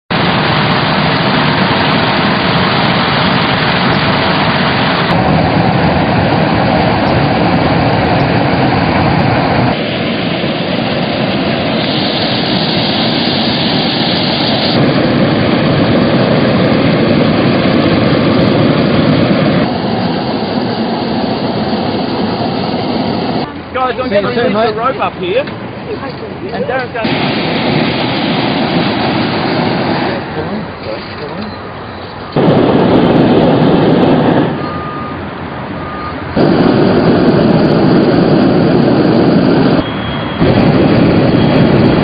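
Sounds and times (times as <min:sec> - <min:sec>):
propane burner firing: 0:00.1 - 0:25.5, 0:26.6 - 0:31.3, 0:32.3 - 0:34.8, 0:36.4 - 0:42.0.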